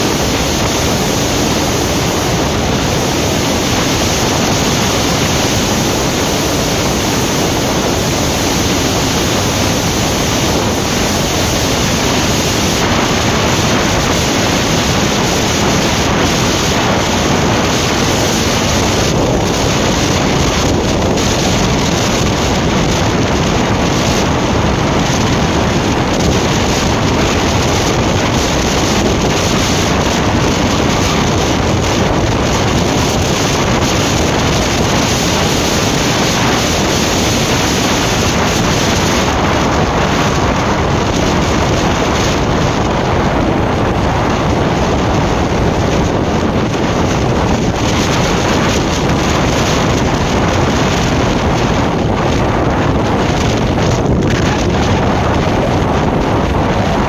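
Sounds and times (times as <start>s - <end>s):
motorcycle engine drone: 0.0s - 57.0s
wind rushing on microphone: 0.0s - 57.0s.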